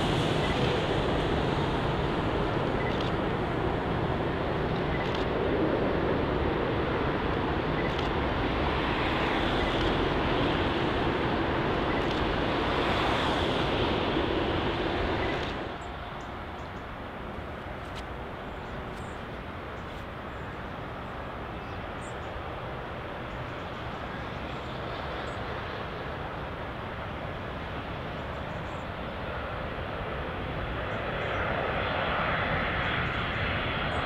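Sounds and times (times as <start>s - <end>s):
jet engine rumble: 0.0s - 34.0s.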